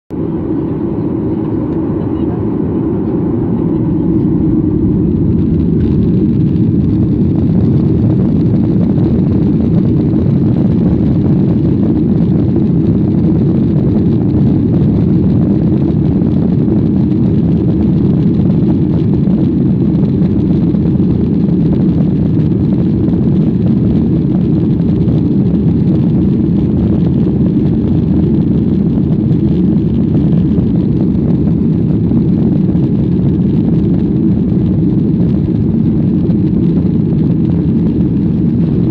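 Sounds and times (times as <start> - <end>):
jet engines roaring in cabin: 0.1 - 38.9.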